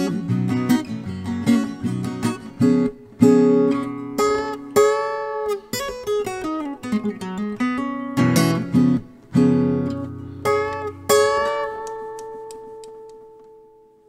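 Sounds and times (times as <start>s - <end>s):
acoustic guitar blues: 0.0s - 14.0s.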